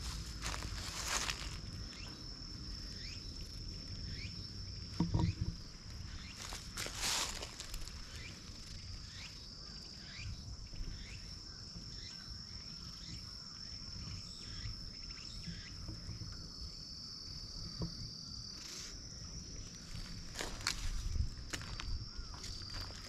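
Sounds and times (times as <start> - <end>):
insects shrilling drone: 0.0 - 23.0.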